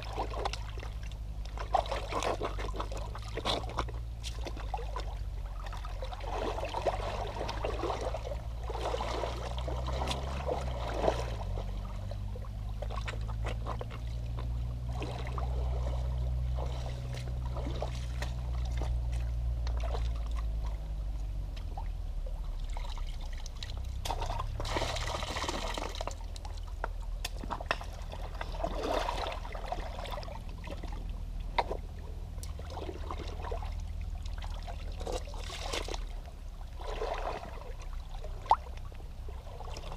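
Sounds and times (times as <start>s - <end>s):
feet splashing in water: 0.0s - 39.9s
stream trickling: 0.0s - 39.9s.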